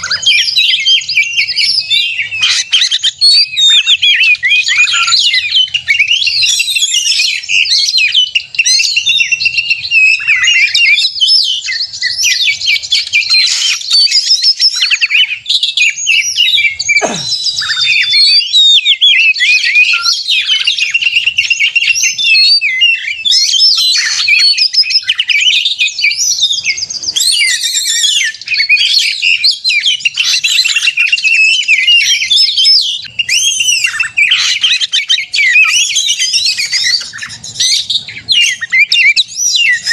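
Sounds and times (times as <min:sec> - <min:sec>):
bird singing rapid whistles and trills: 0:00.0 - 0:39.9.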